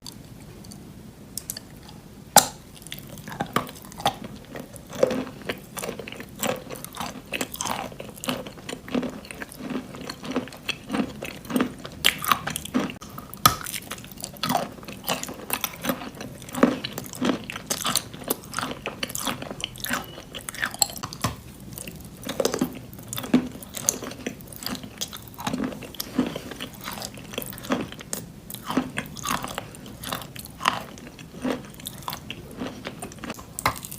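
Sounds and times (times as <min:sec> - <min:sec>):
chewing crunchy chalk: 0:02.8 - 0:33.9.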